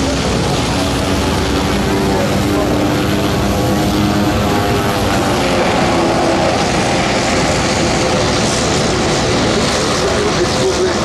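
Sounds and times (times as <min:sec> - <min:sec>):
propeller aircraft engine running: 0:00.0 - 0:11.0.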